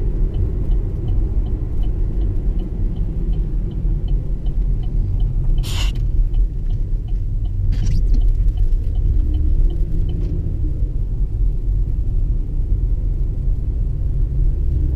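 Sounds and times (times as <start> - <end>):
road rumble: 0.0 - 14.9
wind on moving car: 0.0 - 14.9.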